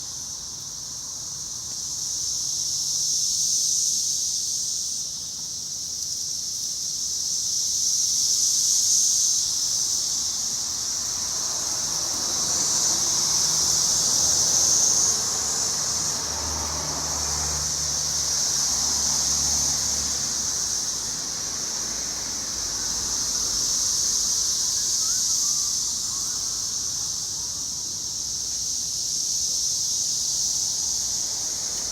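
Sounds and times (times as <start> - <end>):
cicadas buzzing: 0.0 - 31.9.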